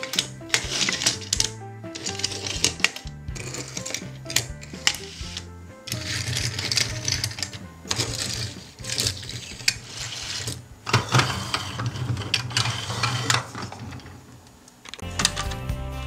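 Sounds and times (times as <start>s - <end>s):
toy cars rolling on table: 0.0s - 15.0s.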